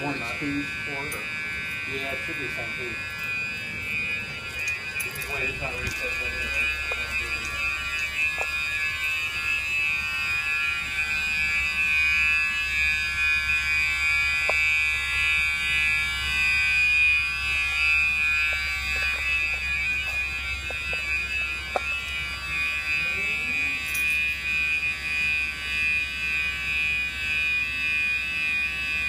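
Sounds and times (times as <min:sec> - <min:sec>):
high-pitched door alarm tone: 0:00.0 - 0:29.0.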